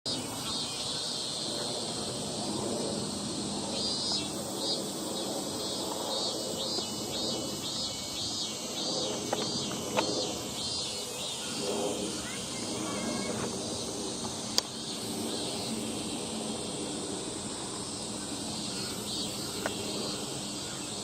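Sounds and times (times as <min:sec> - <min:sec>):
insect chirping: 0:00.1 - 0:21.0
steady background hiss: 0:00.1 - 0:21.0.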